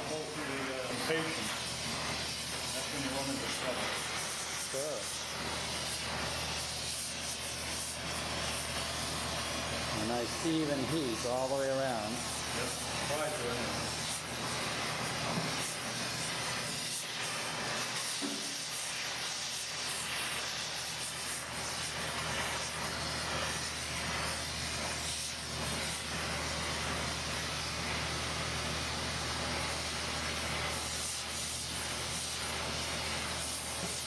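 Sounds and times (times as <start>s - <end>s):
gas torch hissing: 0.0s - 34.0s.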